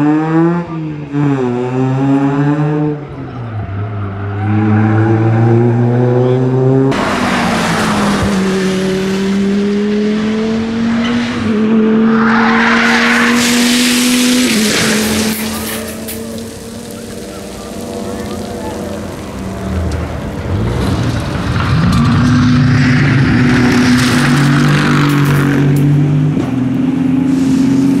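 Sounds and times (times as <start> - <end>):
loud noisy race car engine: 0.0 - 28.0
race car engine accelerating: 0.0 - 28.0.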